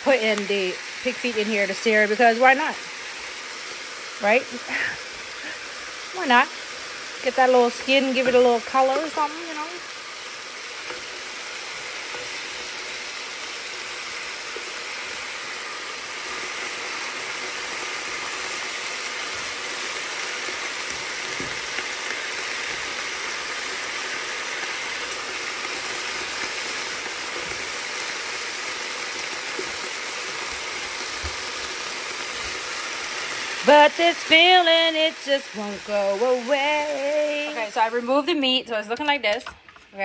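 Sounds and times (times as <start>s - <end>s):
meat sizzling in hot oil: 0.0s - 39.2s.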